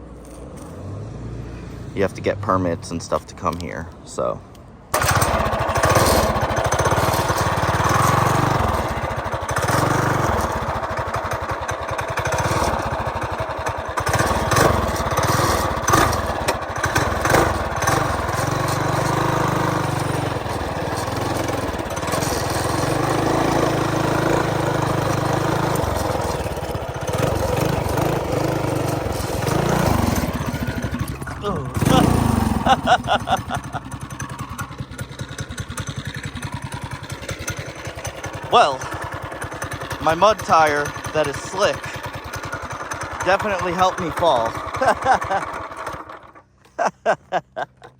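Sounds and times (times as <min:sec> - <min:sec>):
mini bike engine revving: 0:04.9 - 0:46.9.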